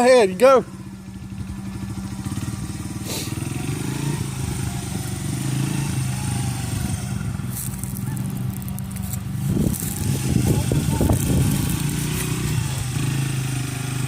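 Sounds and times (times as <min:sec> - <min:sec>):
dirt bike engine pulling away: 0:00.0 - 0:14.0.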